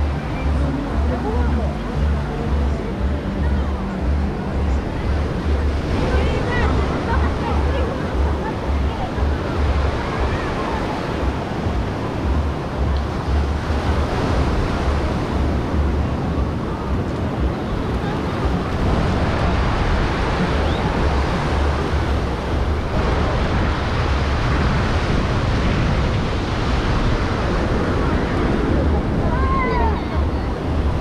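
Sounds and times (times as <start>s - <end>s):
ocean surf on beach: 0.0s - 31.0s
wind buffeting microphone: 0.0s - 31.0s.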